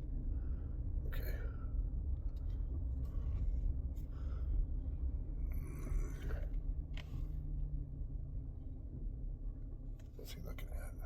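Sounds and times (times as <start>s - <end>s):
engine hum: 0.0s - 11.0s
vehicle rumble inside cab: 0.0s - 11.0s.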